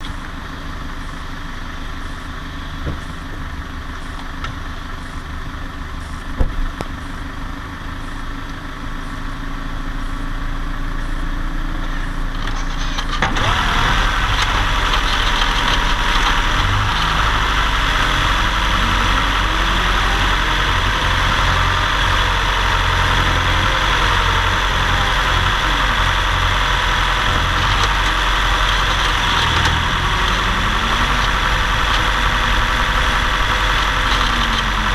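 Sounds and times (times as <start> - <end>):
car engine under load: 0.0 - 34.9.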